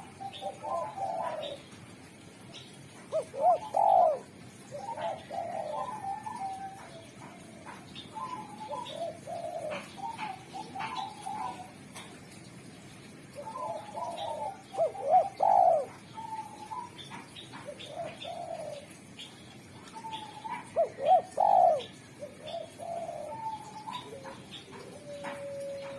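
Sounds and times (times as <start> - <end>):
dove cooing: 0.0 - 2.2, 3.0 - 12.1, 12.8 - 19.1, 19.8 - 25.9.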